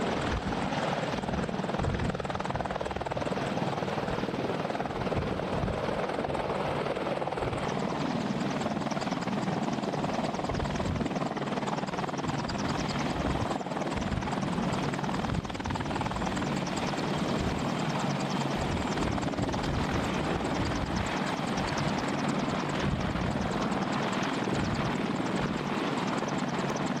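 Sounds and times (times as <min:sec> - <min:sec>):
helicopter engines and rotor chop: 0:00.0 - 0:27.0.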